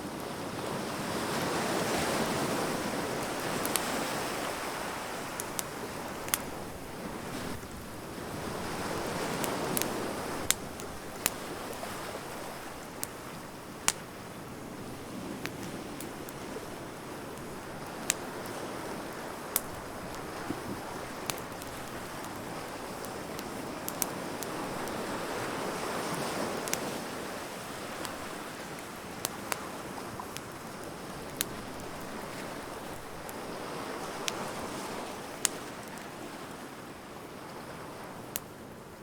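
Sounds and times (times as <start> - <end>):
surf washing: 0.0 - 38.2
burning wood crackling and popping: 0.1 - 36.6.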